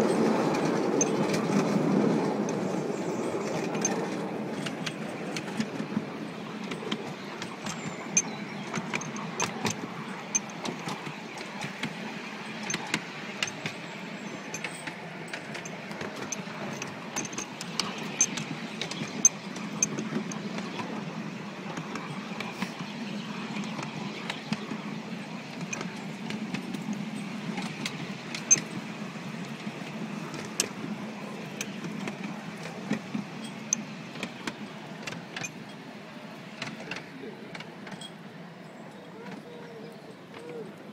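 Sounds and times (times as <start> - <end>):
train carriage rumble: 0.0 - 40.9
wheels clicking and rattling: 0.0 - 40.9.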